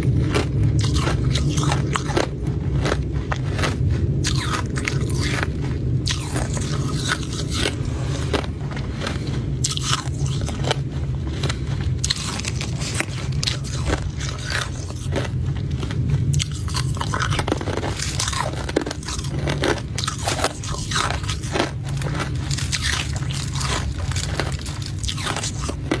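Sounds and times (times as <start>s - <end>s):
ice cubes crunching: 0.0s - 26.0s
steady low hum: 0.0s - 26.0s.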